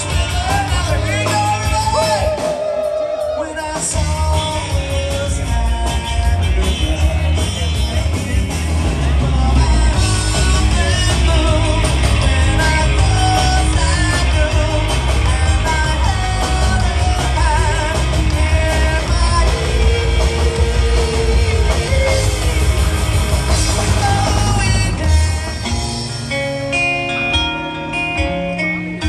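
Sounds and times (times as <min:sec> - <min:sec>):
lead singer: 0:00.0 - 0:26.8
drums: 0:00.0 - 0:29.0
electric guitars: 0:00.0 - 0:29.0.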